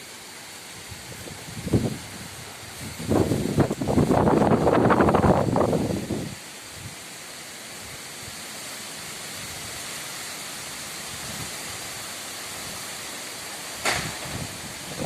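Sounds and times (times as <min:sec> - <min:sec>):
strong wind rushing through trees: 0:00.0 - 0:15.0.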